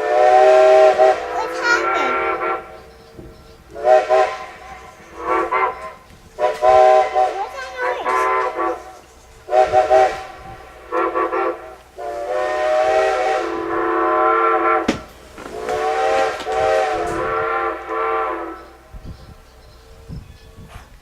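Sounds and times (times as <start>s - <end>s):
steam locomotive chime whistle: 0.0s - 20.6s.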